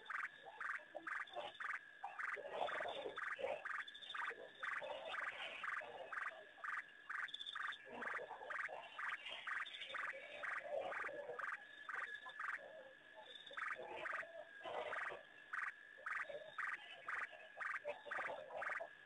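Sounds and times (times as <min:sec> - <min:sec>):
background frog chorus: 0:00.0 - 0:19.0
frogs croaking: 0:00.0 - 0:19.0.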